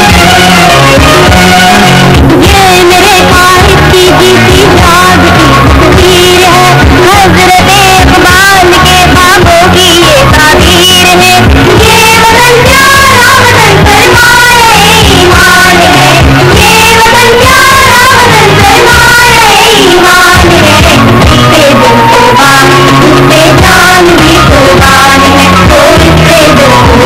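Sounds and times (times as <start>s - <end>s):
high singing voice: 0.0s - 27.0s
repeating bass line: 0.0s - 27.0s.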